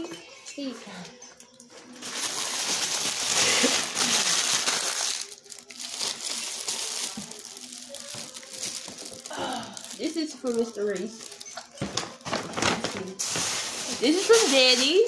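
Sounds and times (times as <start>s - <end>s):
wrapping paper crinkling: 1.8s - 15.0s.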